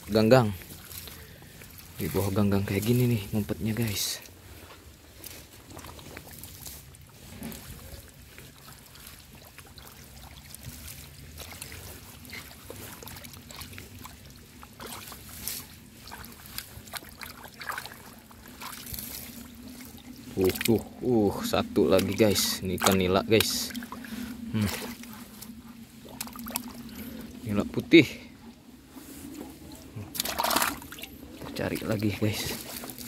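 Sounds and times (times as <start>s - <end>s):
hands rummaging in water: 0.0s - 27.9s, 28.5s - 33.0s
steady low hum: 0.0s - 33.0s
wet squelches: 0.0s - 33.0s
small splashes: 4.2s - 27.6s, 29.1s - 33.0s.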